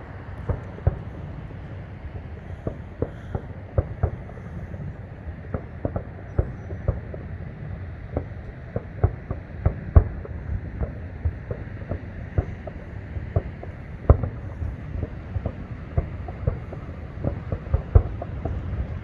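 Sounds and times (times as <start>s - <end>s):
distant fireworks bursting: 0.0s - 19.0s
steady low rumble: 0.0s - 19.0s.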